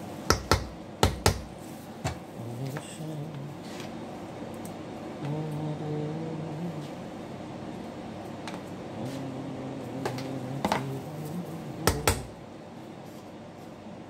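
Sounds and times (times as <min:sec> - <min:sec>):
kitchen equipment hum: 0:00.0 - 0:14.0.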